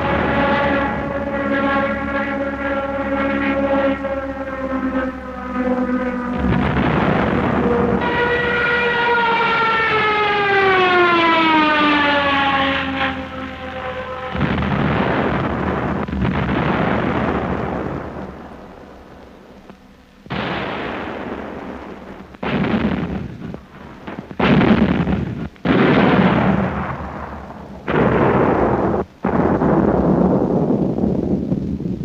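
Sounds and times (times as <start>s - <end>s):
heavy bomb explosions: 0.0s - 32.0s.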